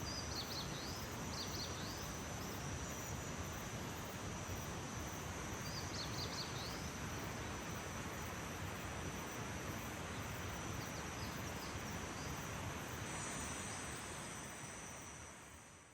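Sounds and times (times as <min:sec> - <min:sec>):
high-pitched insect trill: 0:00.0 - 0:15.6.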